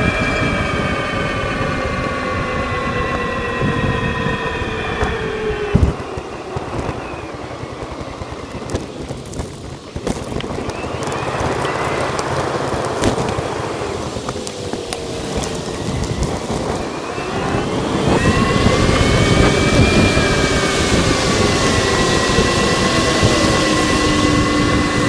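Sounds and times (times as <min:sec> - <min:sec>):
road noise: 0:00.0 - 0:25.0
whining tone: 0:00.0 - 0:25.0
wind rumble: 0:00.0 - 0:25.0.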